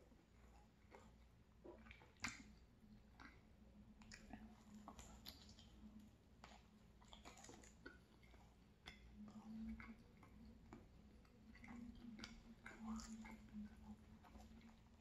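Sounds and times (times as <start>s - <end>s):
faint low hum: 0.0s - 15.0s
chewing mouth clicks and smacks: 0.1s - 15.0s.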